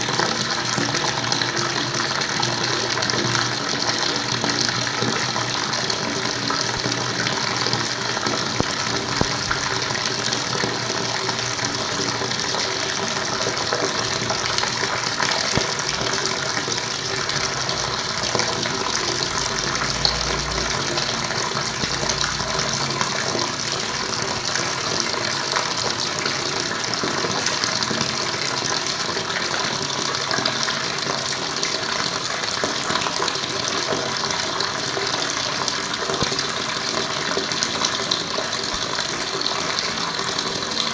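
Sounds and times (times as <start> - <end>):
water flowing: 0.0 - 40.9.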